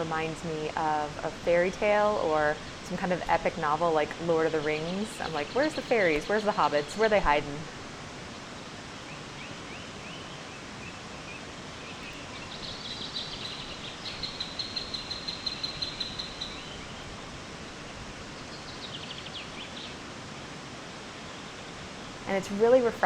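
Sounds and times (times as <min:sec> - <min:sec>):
songbird singing: 0:00.0 - 0:23.0
waterfall rushing: 0:00.0 - 0:23.0.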